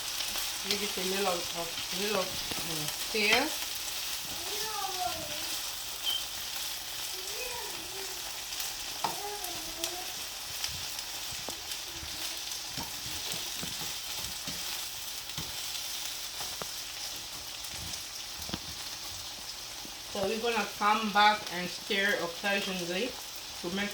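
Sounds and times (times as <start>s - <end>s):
onion sizzling in oil: 0.0s - 23.9s.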